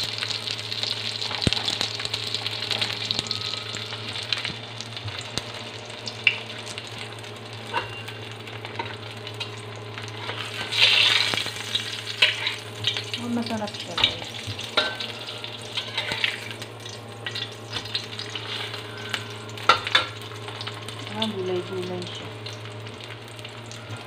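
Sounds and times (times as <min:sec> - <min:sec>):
pancake sizzling in oil: 0:00.0 - 0:24.0.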